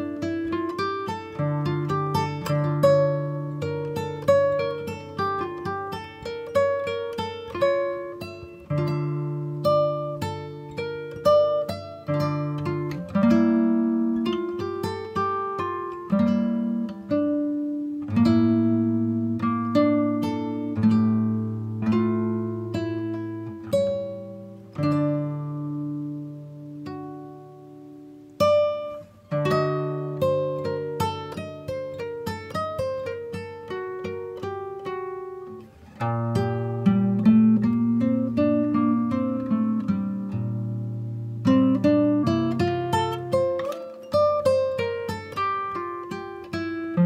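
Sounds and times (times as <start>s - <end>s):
guitar plucked notes: 0.0s - 47.0s.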